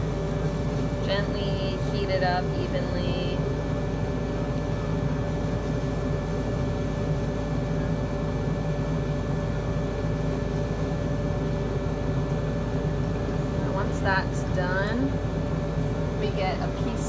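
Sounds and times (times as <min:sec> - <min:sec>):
extractor fan humming: 0:00.0 - 0:17.0.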